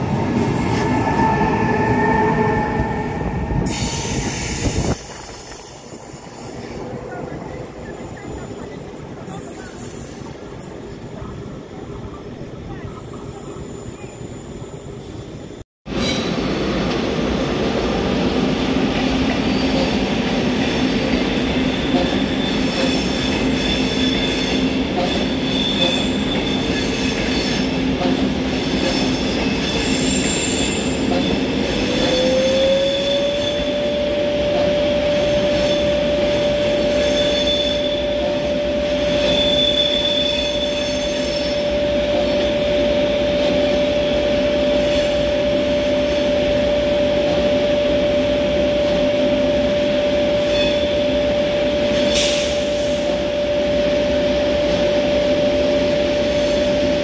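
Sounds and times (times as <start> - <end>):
train rolling on tracks: 0.0 - 57.0.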